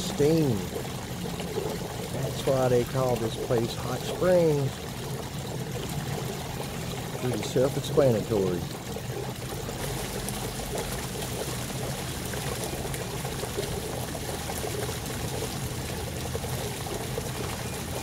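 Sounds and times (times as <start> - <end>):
water running: 0.0 - 18.0.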